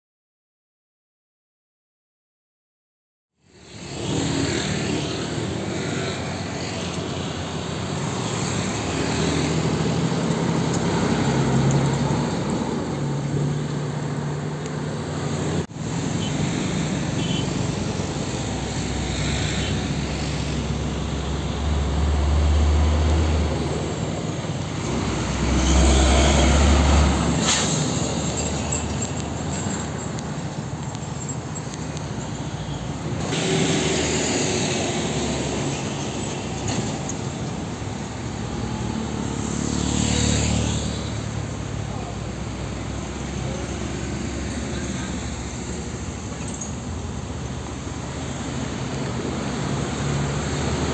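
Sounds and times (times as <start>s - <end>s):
tyre and traffic noise: 3.4s - 50.9s
diesel trucks driving past: 3.6s - 50.9s.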